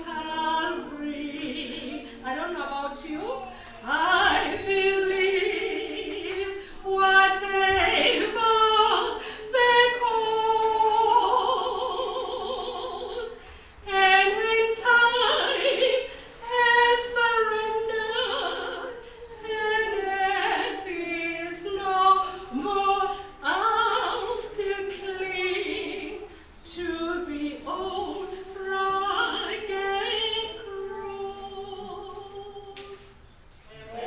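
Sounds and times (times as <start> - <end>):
woman singing gospel: 0.0 - 34.0.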